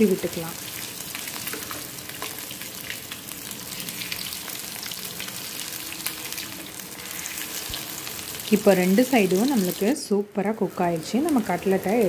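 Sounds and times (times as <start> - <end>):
potato cutlets sizzling in hot oil: 0.0 - 12.0.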